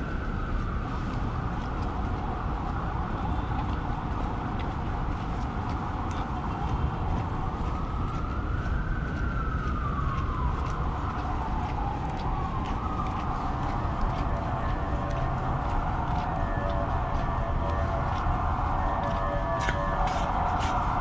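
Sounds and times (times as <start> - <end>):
emergency vehicle siren wailing: 0.0 - 21.0
wind and city rumble: 0.0 - 21.0.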